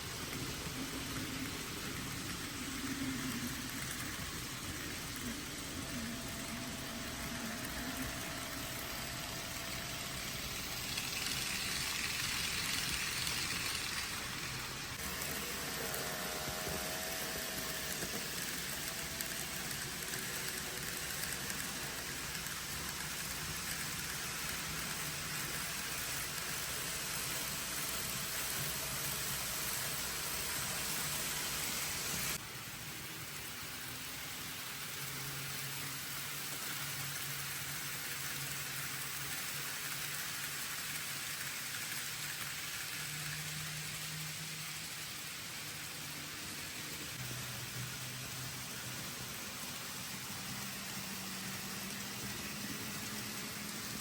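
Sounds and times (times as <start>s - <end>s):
train running: 0.0s - 54.0s.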